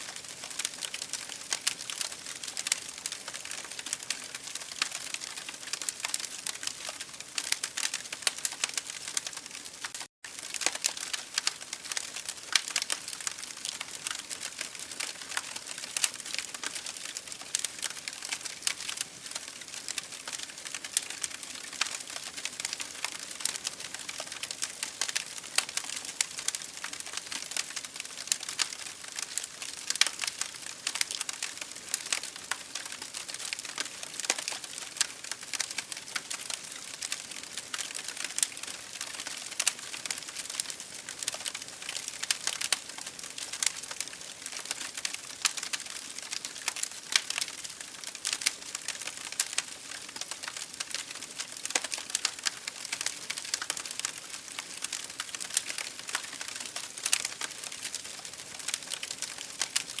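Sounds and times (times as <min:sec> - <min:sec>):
wood fire crackling: 0:00.0 - 1:00.0
fire popping and snapping: 0:00.1 - 1:00.0.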